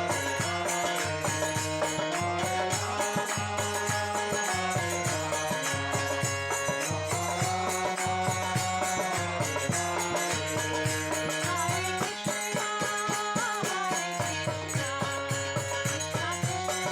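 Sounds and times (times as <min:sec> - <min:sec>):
folk-style devotional music: 0:00.0 - 0:16.9
tambourine-like jingle: 0:00.0 - 0:16.9.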